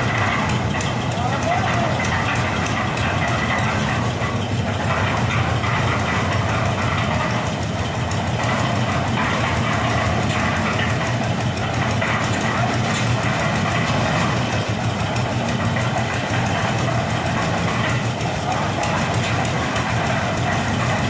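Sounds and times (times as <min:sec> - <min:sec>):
concrete mixer engine running: 0:00.0 - 0:21.0.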